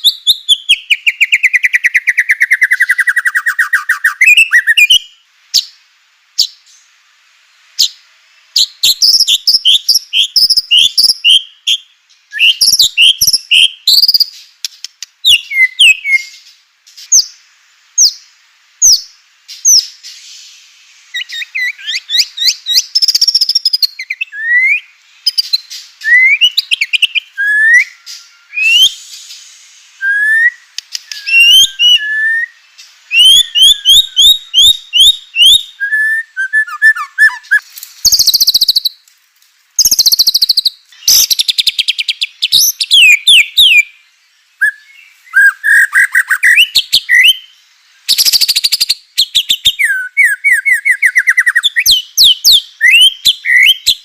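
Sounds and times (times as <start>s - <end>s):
songbird singing whistled phrases: 0.0s - 5.8s, 7.8s - 39.0s, 39.8s - 54.0s.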